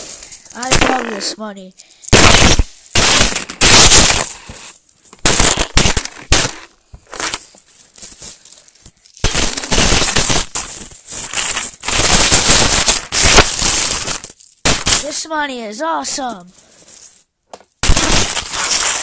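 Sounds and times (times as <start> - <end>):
coins jingling and clattering: 0.0 - 1.0, 1.8 - 15.3, 16.1 - 19.0.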